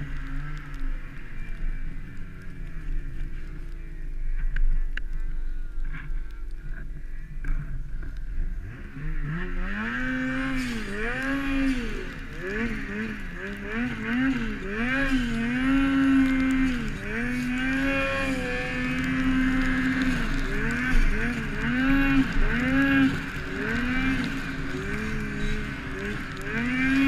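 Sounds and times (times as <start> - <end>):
snowmobile engine revving: 0.0 - 4.8, 7.4 - 27.0.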